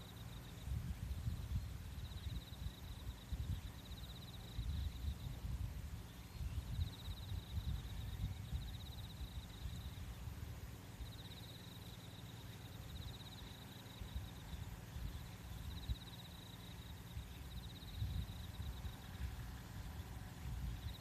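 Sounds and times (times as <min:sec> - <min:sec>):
insects trilling: 0:00.0 - 0:21.0
low wind rumble: 0:00.0 - 0:21.0.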